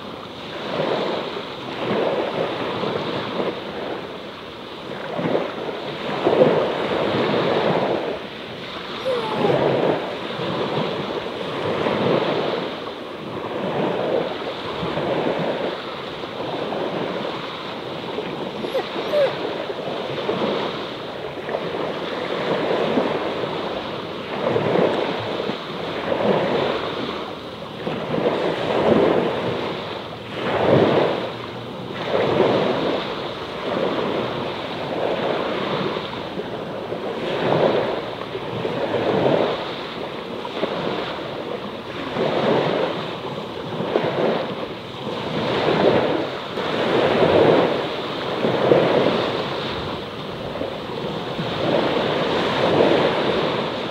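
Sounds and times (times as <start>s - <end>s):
small sea waves washing ashore: 0.0s - 53.9s.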